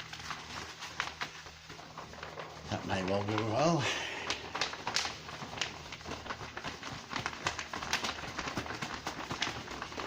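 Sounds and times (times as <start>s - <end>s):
items handled by hand: 0.0s - 10.0s.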